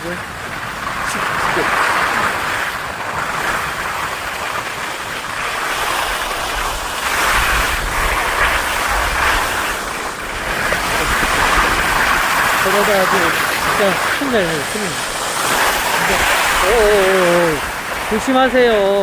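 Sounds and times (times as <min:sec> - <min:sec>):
skis sliding on snow: 0:00.0 - 0:19.0
wind on microphone: 0:00.0 - 0:19.0.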